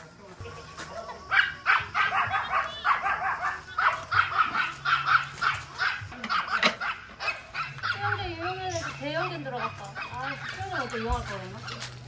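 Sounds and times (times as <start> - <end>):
dog barking rapidly: 1.2 - 11.8.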